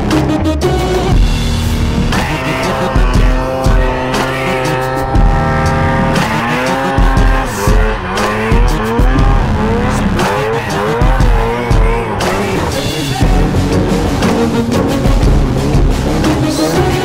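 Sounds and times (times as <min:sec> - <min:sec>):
background music: 0:00.0 - 0:17.0
snowmobile engine revving: 0:00.0 - 0:17.0.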